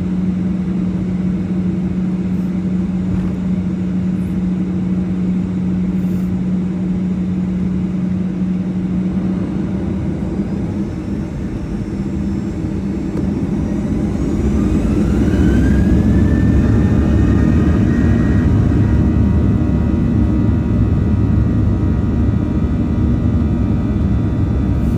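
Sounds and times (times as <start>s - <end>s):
jet engines spooling up: 0.0s - 20.5s, 24.2s - 24.9s.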